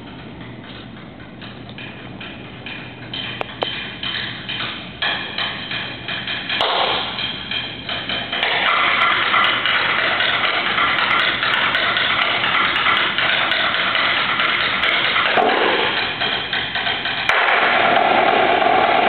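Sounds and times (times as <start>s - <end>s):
snare drum played with sticks: 3.4s - 19.0s.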